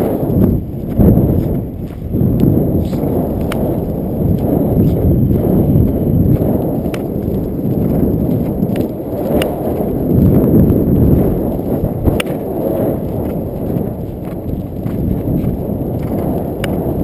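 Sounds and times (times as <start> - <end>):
hooves thudding on turf: 0.0 - 17.0
wind rumble on microphone: 0.0 - 17.0.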